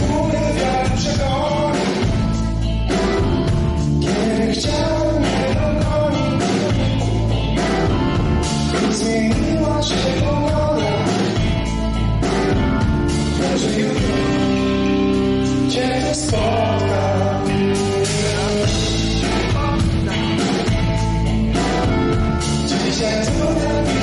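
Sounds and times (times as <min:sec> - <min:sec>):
lead vocal singing: 0:00.0 - 0:03.2, 0:03.9 - 0:07.7, 0:08.7 - 0:11.6, 0:13.2 - 0:24.0
bass guitar: 0:00.0 - 0:24.0
drum kit beat: 0:00.0 - 0:24.0
electric guitar: 0:00.0 - 0:24.0.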